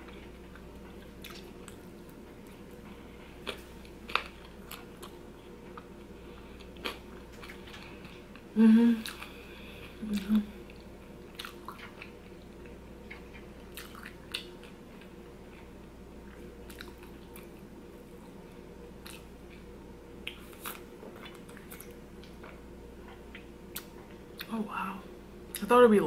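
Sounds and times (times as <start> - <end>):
person chewing: 0.0 - 17.6, 19.0 - 24.5.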